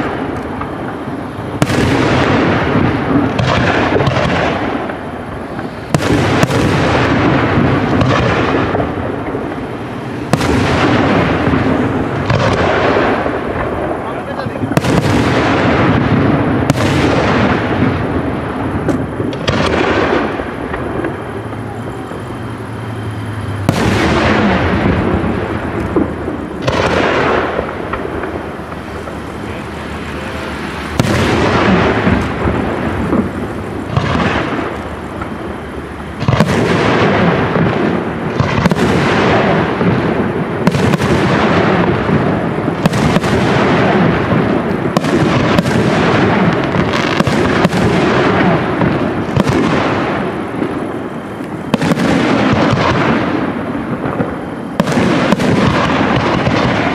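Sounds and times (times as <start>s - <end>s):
firework shells bursting with echo: 0.0s - 56.9s.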